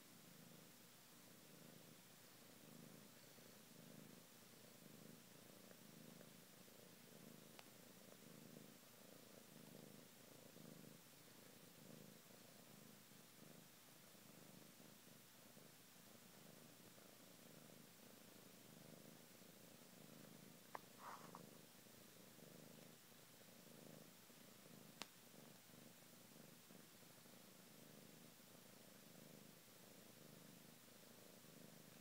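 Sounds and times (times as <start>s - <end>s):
cat purring: 0.0s - 32.0s.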